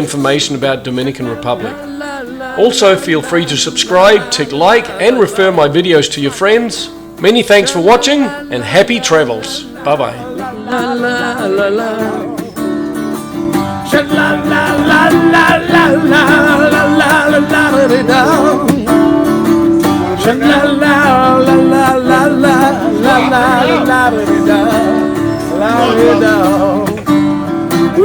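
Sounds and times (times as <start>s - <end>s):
plucked acoustic guitar: 0.0s - 28.0s
person singing: 0.9s - 12.9s, 13.5s - 28.0s.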